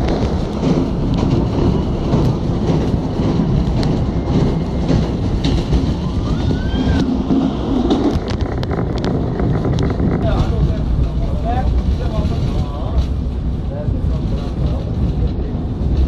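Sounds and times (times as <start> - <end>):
train rumble on board: 0.0 - 16.0
wheels clicking over rails: 0.0 - 16.0.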